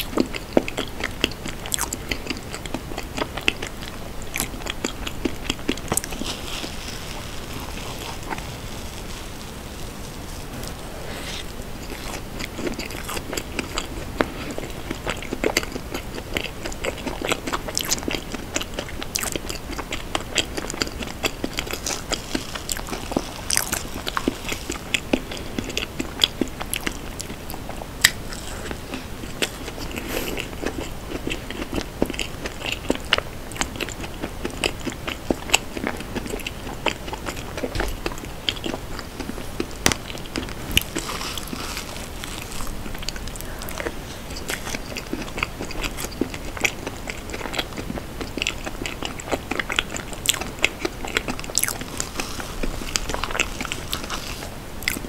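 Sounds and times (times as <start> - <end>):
chewing clicks and smacks: 0.0 - 6.2, 11.8 - 28.3, 29.4 - 52.0.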